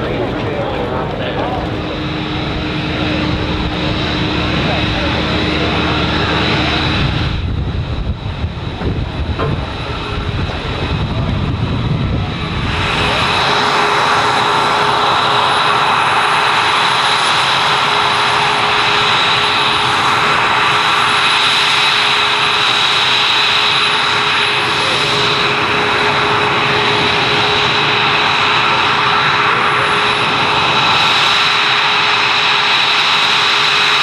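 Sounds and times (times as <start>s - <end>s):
jet engine roaring: 0.0s - 34.0s.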